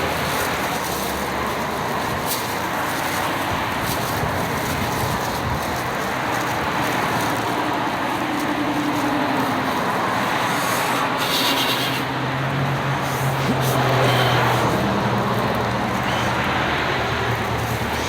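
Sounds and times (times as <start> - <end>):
road traffic noise: 0.0 - 18.0
vehicle engine hum: 0.0 - 18.0.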